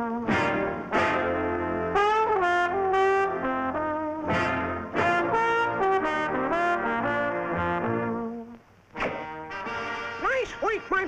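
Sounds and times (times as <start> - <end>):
jazzy brass music: 0.0 - 10.9.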